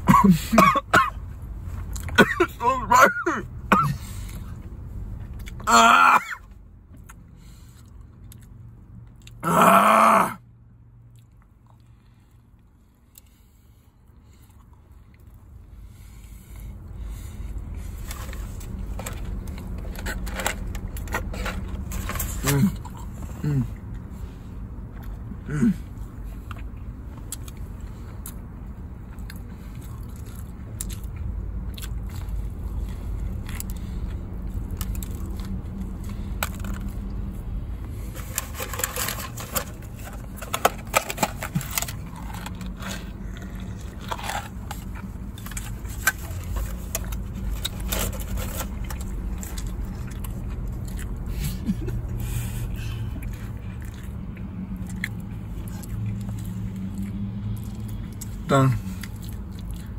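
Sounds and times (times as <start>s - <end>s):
person chewing crispy food: 3.9s - 6.1s, 11.0s - 13.4s, 14.2s - 24.2s, 24.8s - 59.9s.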